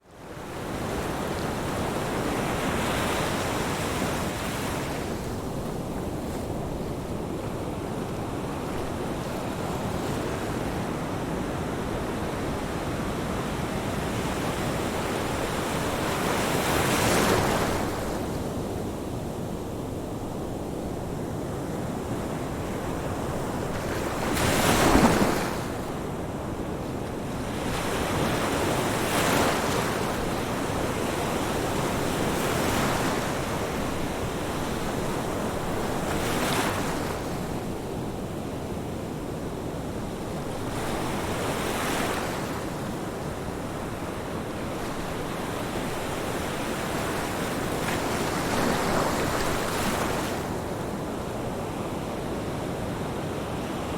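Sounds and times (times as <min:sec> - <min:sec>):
ocean waves crashing on shore: 0:00.1 - 0:53.9.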